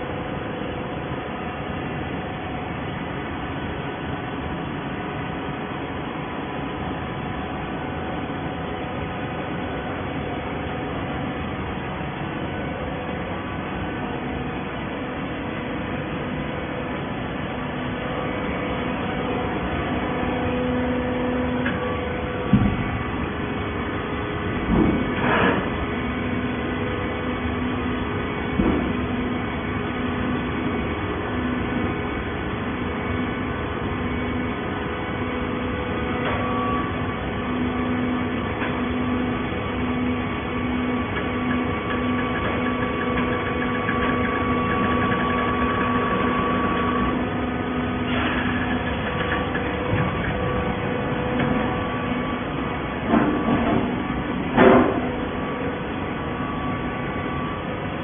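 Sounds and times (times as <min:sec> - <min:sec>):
bottle baler machine drone: 0:00.0 - 0:58.0.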